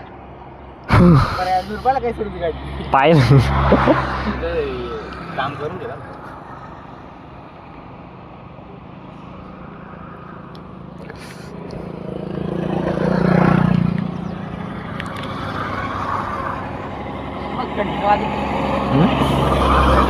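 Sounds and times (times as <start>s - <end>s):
low engine hum: 0.0s - 7.2s, 9.2s - 20.0s
motor vehicle passing: 0.9s - 8.0s, 8.9s - 20.0s.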